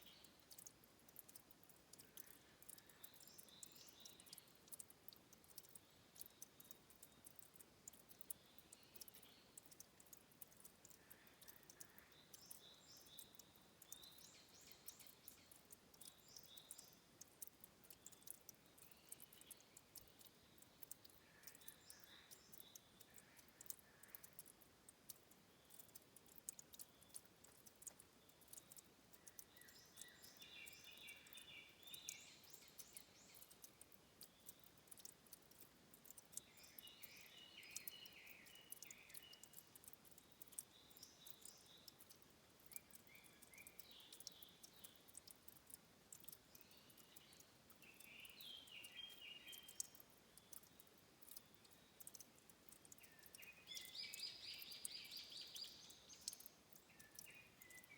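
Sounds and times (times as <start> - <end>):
small birds chirping: 0.0 - 57.9
water dripping and trickling: 0.0 - 57.9.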